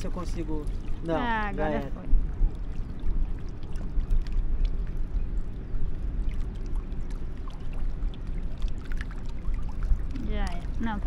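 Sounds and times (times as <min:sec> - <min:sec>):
low uneven rumble: 0:00.0 - 0:11.0.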